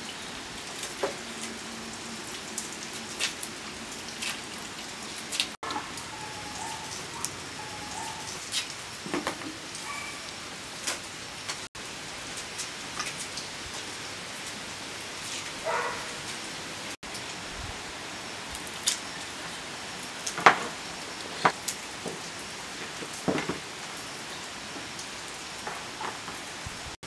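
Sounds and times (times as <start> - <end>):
rain pattering on a surface: 0.0 - 27.0.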